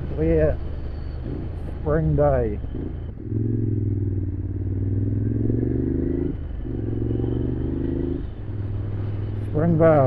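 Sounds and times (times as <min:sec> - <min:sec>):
motorcycle engine running: 0:01.2 - 0:09.8.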